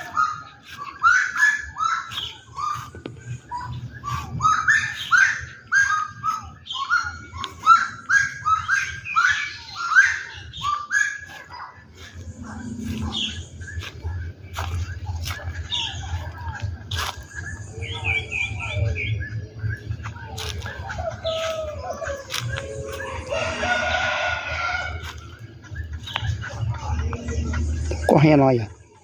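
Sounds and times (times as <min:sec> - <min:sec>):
birds clucking calls: 0:00.0 - 0:29.0.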